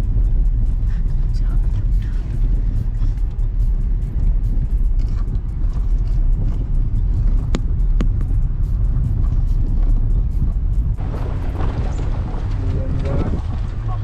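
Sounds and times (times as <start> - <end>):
car rumbling over dirt track: 0.0 - 14.0.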